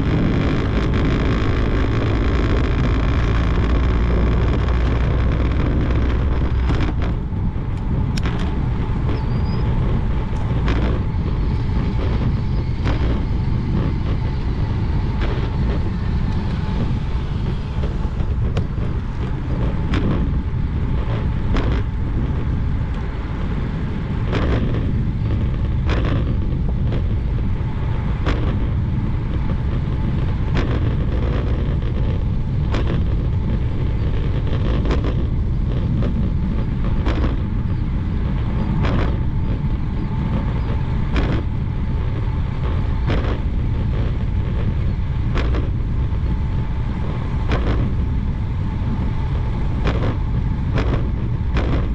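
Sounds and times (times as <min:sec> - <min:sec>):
low tyre rumble: 0:00.0 - 0:51.9
wind buffeting microphone: 0:00.0 - 0:51.9.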